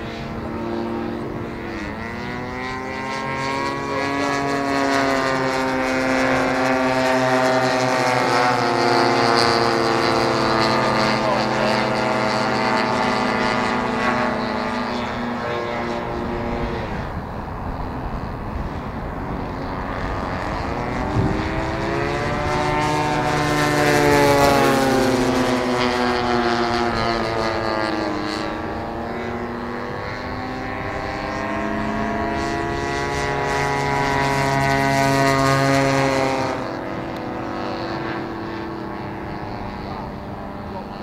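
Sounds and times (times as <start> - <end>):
model aircraft engine in flight: 0.0 - 41.0.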